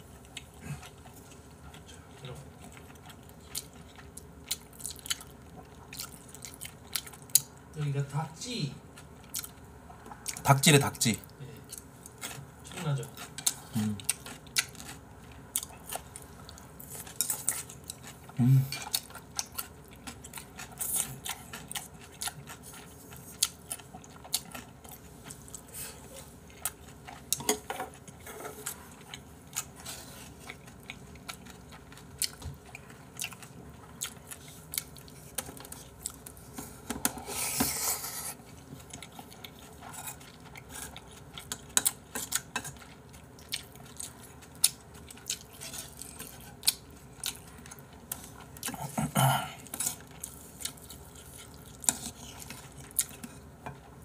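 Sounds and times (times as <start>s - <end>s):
person chewing food: 0.0s - 7.7s, 8.9s - 10.5s, 11.2s - 54.0s.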